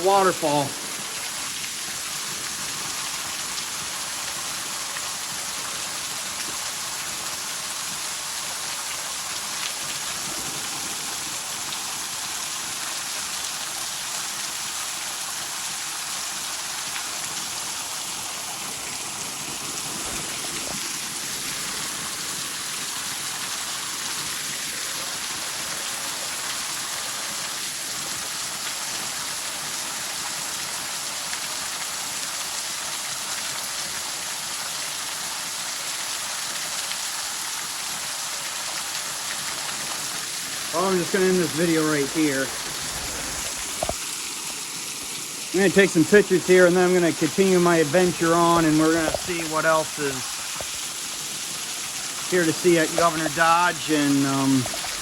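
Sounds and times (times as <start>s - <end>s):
waterfall rushing: 0.0s - 7.4s, 8.0s - 29.5s, 37.7s - 55.0s.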